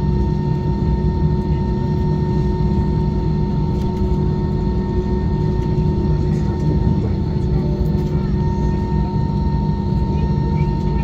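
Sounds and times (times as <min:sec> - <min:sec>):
aircraft cabin rumble and hum: 0:00.0 - 0:11.0
constant whine: 0:00.0 - 0:11.0.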